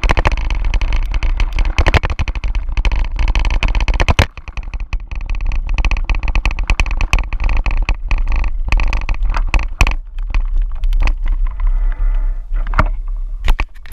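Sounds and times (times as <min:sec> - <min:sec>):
bike rattling over stones: 0:00.0 - 0:13.9
wind rumbling on microphone: 0:00.0 - 0:13.9.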